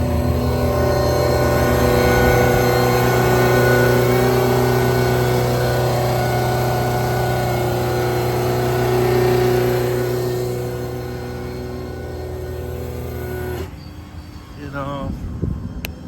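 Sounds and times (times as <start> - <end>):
diesel engine idling: 0.0 - 16.0
hydraulic whine: 0.0 - 16.0.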